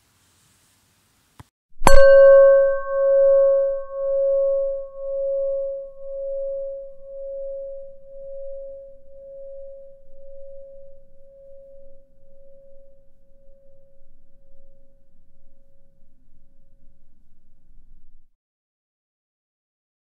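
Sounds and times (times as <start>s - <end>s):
singing bowl ringing: 1.8s - 18.2s.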